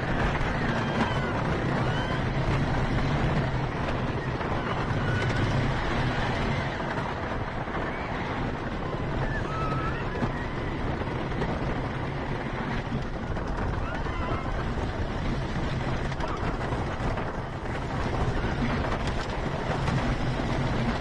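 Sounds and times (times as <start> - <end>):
roller coaster rumbling on wooden track: 0.0 - 21.0
wind noise on microphone: 0.0 - 21.0.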